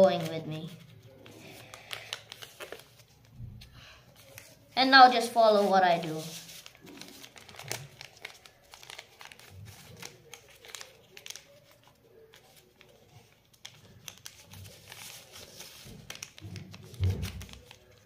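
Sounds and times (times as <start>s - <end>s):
paper crinkling and rustling: 0.0s - 3.4s, 4.2s - 18.0s.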